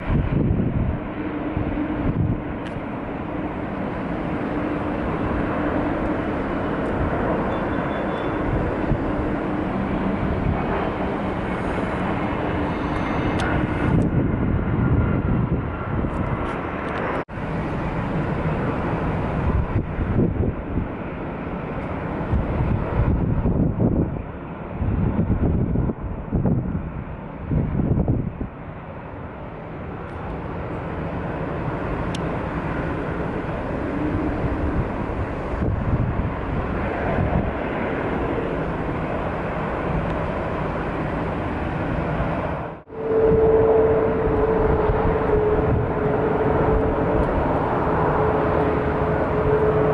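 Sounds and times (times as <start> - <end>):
jet engines rushing: 0.0 - 49.9.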